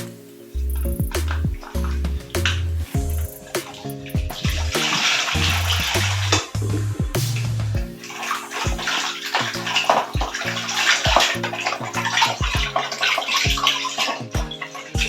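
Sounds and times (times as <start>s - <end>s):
water running and splashing: 0.0s - 6.7s, 7.8s - 15.0s
background music with steady beat: 0.0s - 15.0s.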